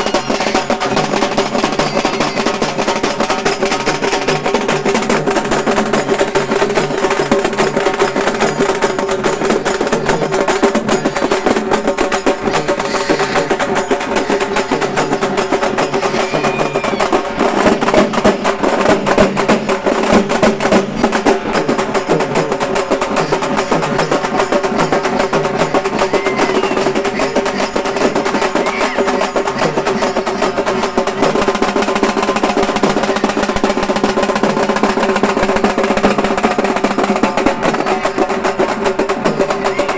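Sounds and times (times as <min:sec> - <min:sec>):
frame drums played with sticks: 0:00.0 - 0:39.9.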